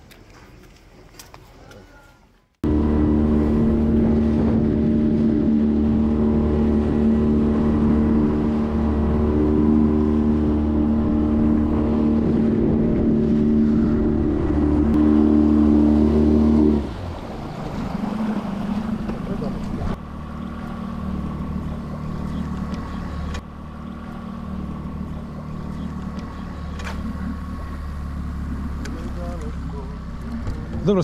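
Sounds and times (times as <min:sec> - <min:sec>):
outboard motor running: 0:02.6 - 0:31.0.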